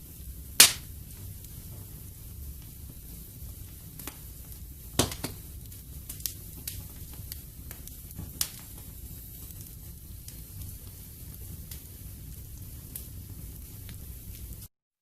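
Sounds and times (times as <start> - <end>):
wood fire crackling: 0.0 - 14.7
sharp pops of fire: 0.1 - 14.7.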